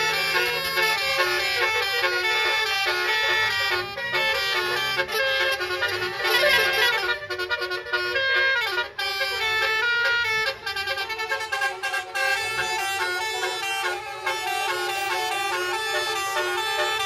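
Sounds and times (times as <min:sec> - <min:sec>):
musical vehicle horn playing tune: 0:00.0 - 0:17.0.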